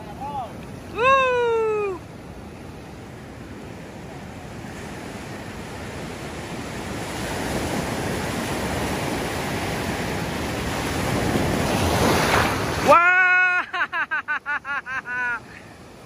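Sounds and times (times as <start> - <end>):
waves breaking: 0.0 - 16.0.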